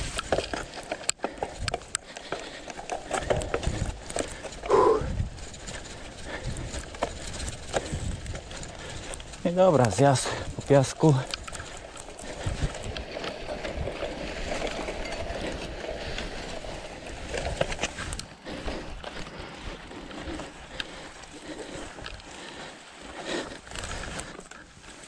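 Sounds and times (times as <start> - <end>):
scattered ticks: 0.0 - 16.6, 17.2 - 25.0
bike tyres grinding in sand: 0.0 - 25.0.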